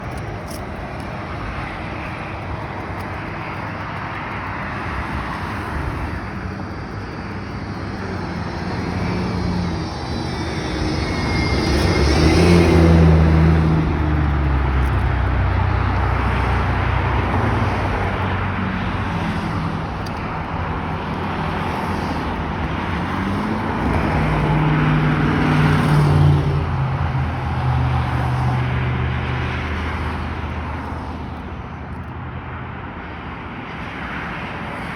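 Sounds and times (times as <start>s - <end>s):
passing vehicles humming: 0.0s - 34.9s.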